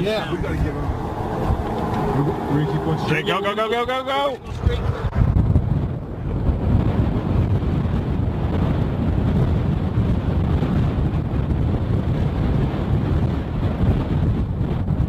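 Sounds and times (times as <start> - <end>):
vehicle road noise: 0.0 - 14.2
wind buffeting microphone: 0.0 - 15.0.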